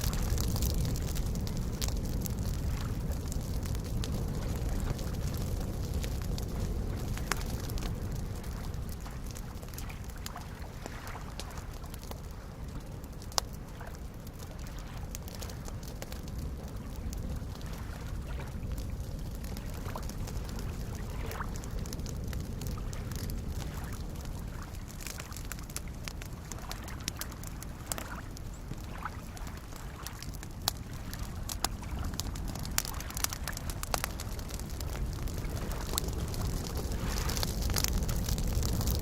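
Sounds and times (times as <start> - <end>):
campfire crackling and popping: 0.0 - 39.0
steady low rumble: 0.0 - 39.0
waves lapping against shore: 0.0 - 39.0.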